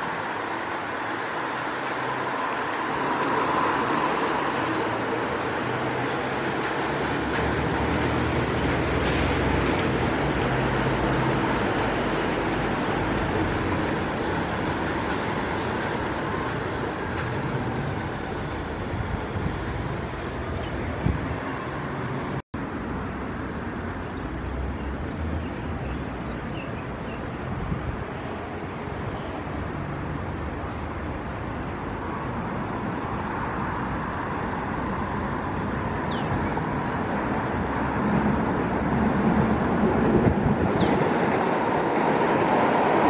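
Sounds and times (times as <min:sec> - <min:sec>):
background traffic noise: 0:00.0 - 0:43.0
rail cars rumbling and hissing: 0:00.0 - 0:43.0.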